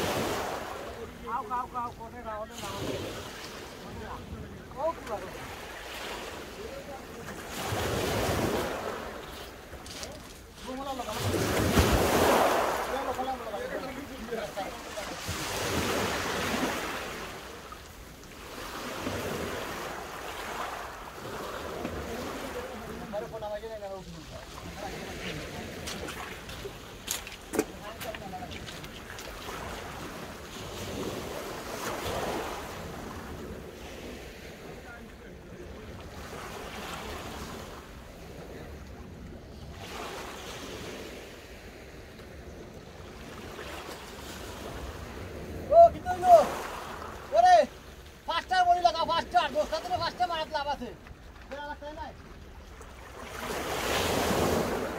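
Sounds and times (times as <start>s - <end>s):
waves washing over shingle: 0.0s - 54.9s.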